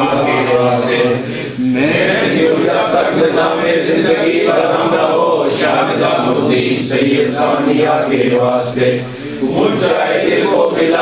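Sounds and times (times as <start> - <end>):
men chanting unaccompanied: 0.0 - 11.0.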